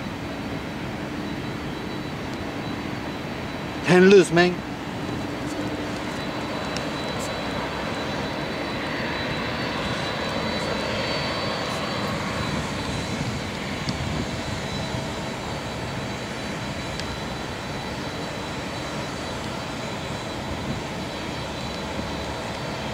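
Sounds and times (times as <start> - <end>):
jet engines running: 0.0 - 22.9.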